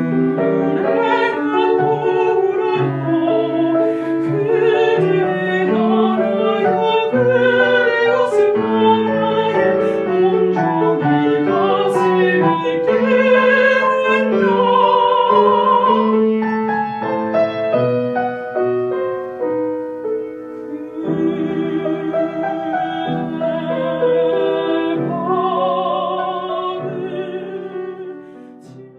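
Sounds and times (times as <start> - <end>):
piano accompaniment: 0.0 - 28.9
soprano singing classical song: 0.0 - 28.9.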